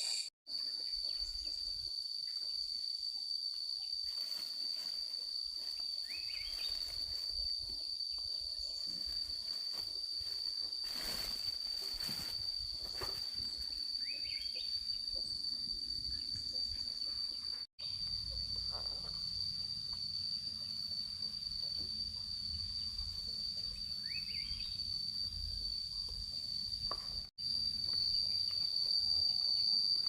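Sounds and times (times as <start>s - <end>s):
insects trilling drone: 0.0s - 30.0s.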